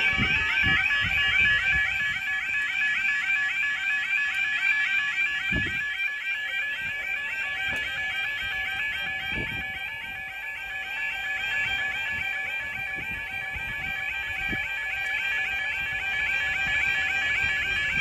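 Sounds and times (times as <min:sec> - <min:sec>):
level crossing alarm warbling: 0:00.0 - 0:18.0.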